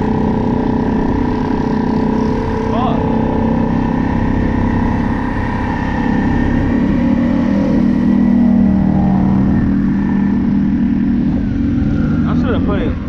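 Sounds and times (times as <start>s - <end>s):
constant low rumble: 0.0s - 13.0s
vehicle engine humming: 0.0s - 13.0s.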